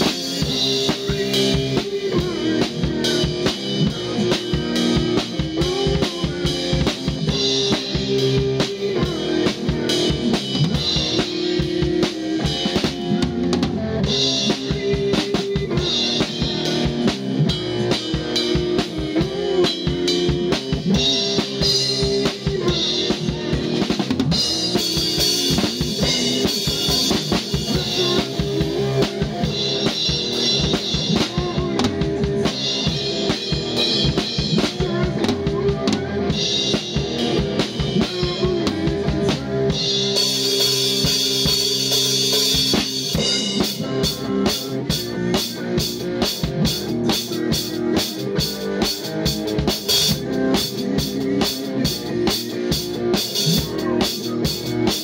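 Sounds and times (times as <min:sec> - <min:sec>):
drum kit played hard: 0:00.0 - 0:55.0
rock band holding notes: 0:00.0 - 0:55.0.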